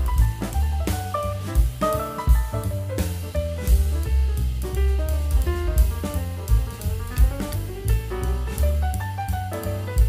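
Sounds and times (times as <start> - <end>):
instrumental music with drums and bass: 0.0 - 10.0.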